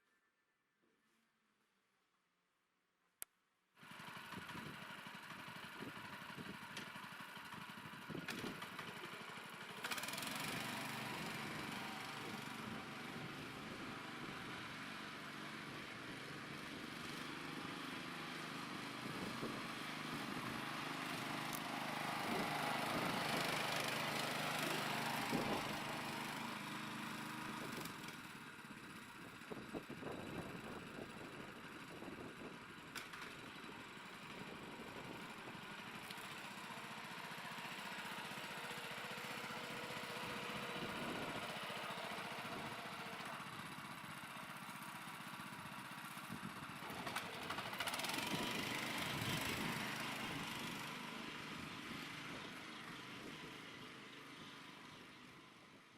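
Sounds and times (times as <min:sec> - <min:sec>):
small engine running: 0:03.8 - 0:55.9.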